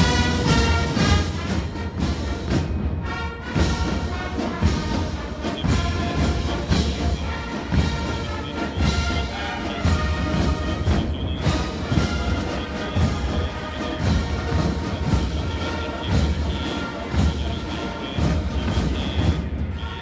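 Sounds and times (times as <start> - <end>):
drum strokes: 0.0 - 20.0
military brass band playing march: 0.0 - 20.0.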